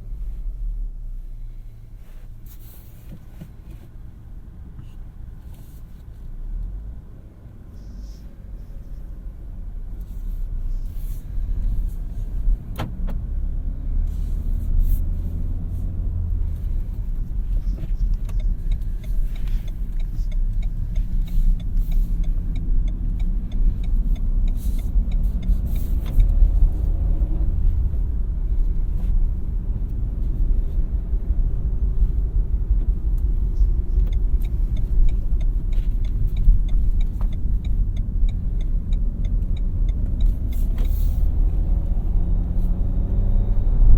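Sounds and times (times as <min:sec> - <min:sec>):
car engine and road noise rumble: 0:00.0 - 0:43.9.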